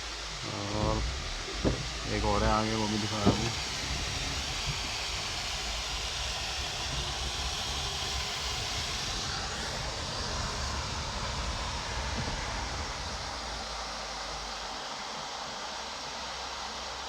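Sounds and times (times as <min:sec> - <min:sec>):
low rumble: 0:00.0 - 0:14.0
waterfall rushing: 0:00.0 - 0:15.1.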